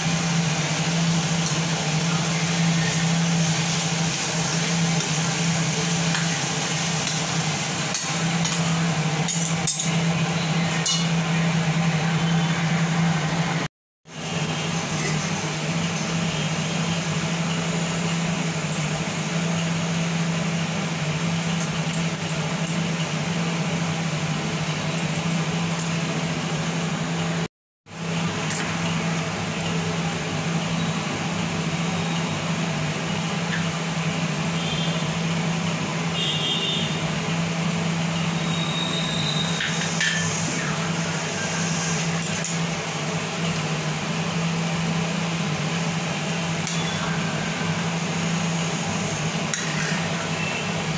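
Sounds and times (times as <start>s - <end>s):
fan humming with rushing air: 0.0s - 50.9s.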